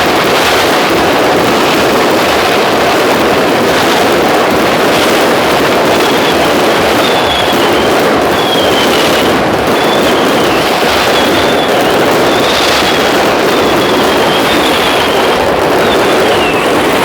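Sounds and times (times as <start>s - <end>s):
fireworks crackling bursts: 0.0s - 17.0s
high firework whistles: 0.0s - 17.0s.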